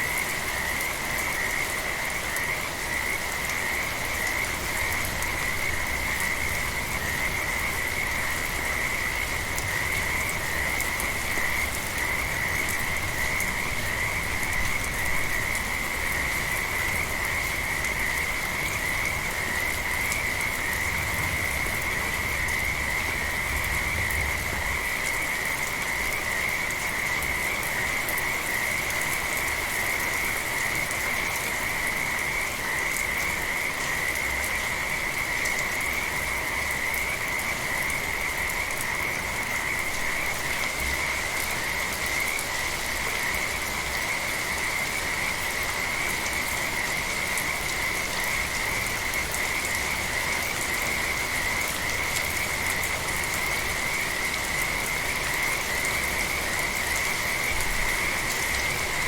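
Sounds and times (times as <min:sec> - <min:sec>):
frogs trilling: 0:00.0 - 0:59.0
soft rain falling: 0:00.0 - 0:59.0.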